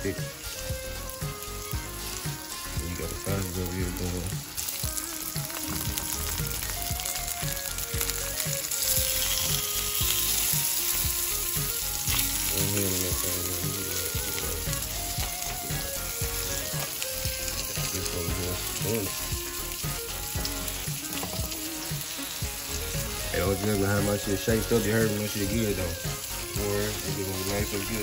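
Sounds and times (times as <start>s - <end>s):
sausage sizzling in a skillet: 0.0s - 28.0s.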